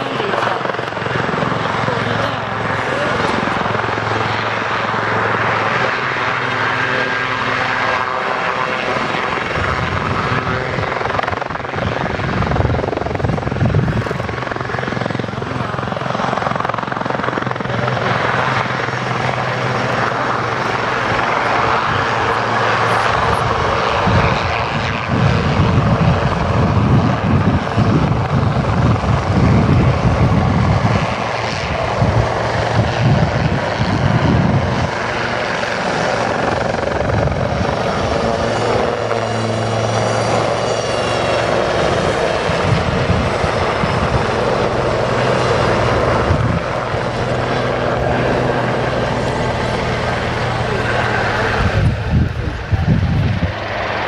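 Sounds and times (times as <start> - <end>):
helicopter rotor chop and engine drone: 0.0 - 54.0.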